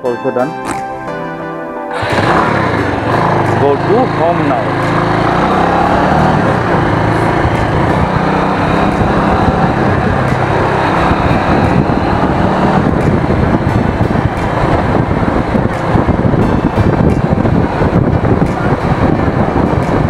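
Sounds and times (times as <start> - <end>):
motorcycle engine running: 1.9 - 20.0
wind rushing on microphone: 2.0 - 20.0.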